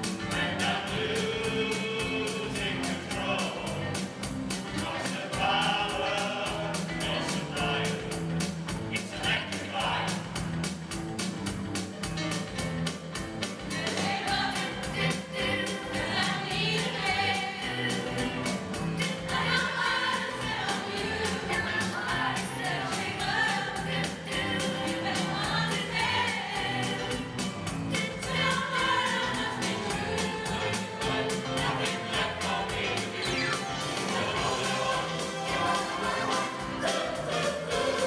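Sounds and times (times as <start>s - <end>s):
choir singing pop song: 0.0s - 10.5s, 13.7s - 38.0s
band with steady beat: 0.0s - 38.0s.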